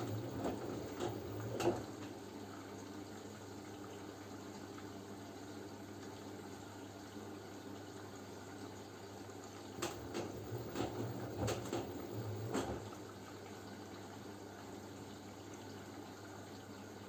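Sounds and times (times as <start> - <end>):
washing machine hum: 0.0 - 17.0.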